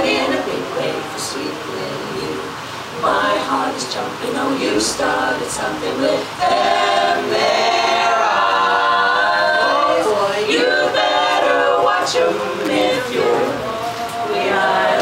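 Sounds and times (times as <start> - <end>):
women singing a cappella: 0.0 - 15.0.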